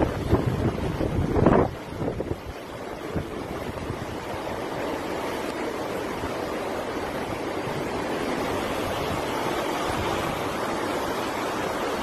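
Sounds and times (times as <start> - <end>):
hurricane-force wind blowing: 0.0 - 12.0.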